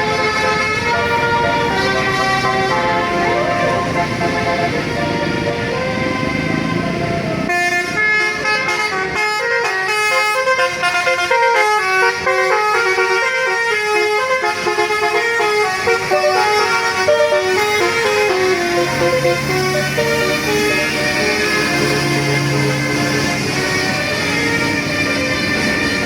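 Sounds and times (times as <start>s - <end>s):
multi-tone bus horn melody: 0.0s - 26.0s.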